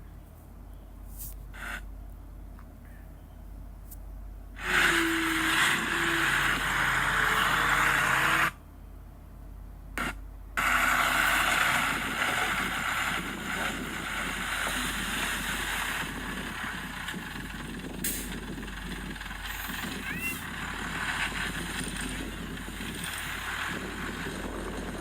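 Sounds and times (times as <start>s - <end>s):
diesel earthmoving machinery running: 0.0s - 25.0s.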